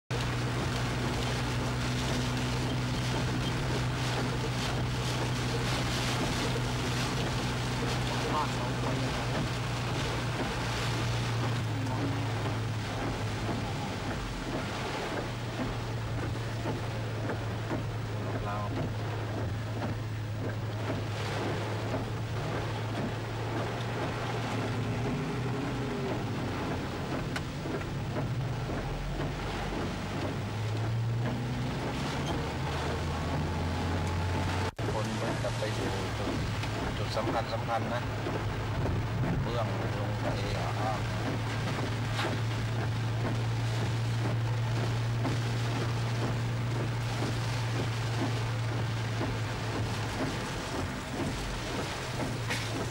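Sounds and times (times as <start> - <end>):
vehicle low hum: 0.0 - 52.9
storm wind and rain: 0.1 - 52.9.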